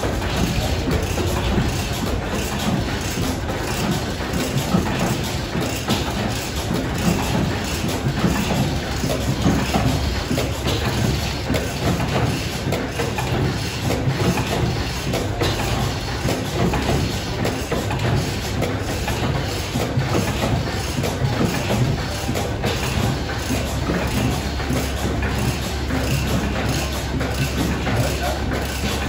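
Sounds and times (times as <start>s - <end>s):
stationary gas engines clattering: 0.0s - 29.0s.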